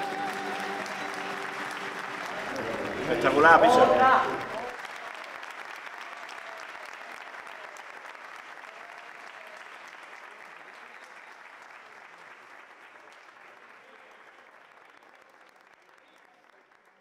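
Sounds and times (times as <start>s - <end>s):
applause: 0.0s - 17.0s.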